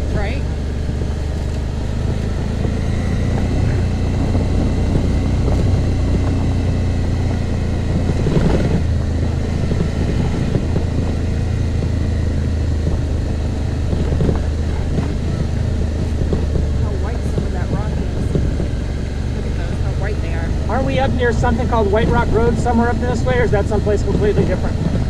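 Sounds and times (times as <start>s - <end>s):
motorcycle engine cruising: 0.0s - 25.0s
road noise: 0.0s - 25.0s
wind noise: 0.0s - 25.0s.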